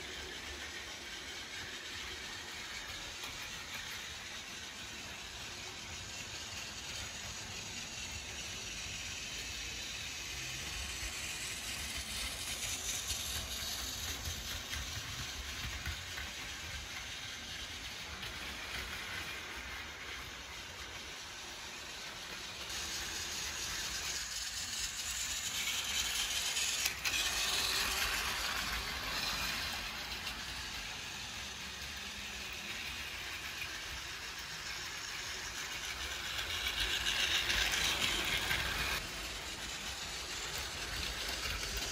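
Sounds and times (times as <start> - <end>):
toy train motor whirring: 0.0 - 41.9
toy train wheels on rails: 0.0 - 41.9.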